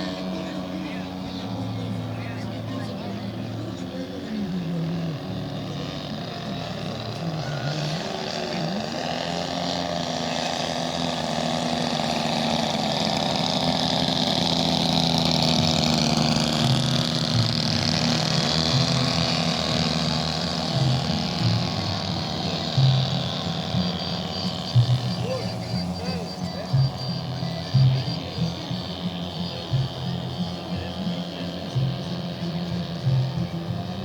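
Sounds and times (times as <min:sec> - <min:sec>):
model airplane engine whine: 0:00.0 - 0:34.0.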